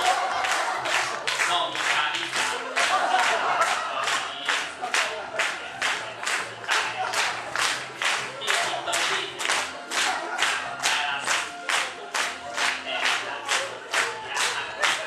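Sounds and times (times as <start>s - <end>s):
hand claps on the beat: 0.0s - 15.0s.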